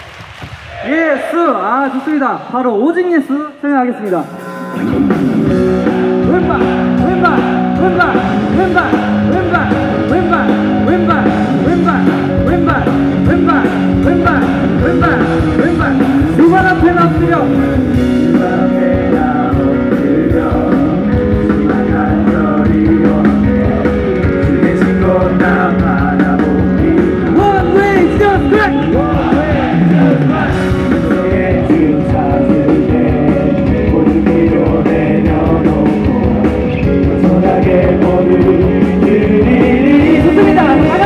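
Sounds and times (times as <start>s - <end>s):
upbeat worship music with singing: 0.0s - 41.0s.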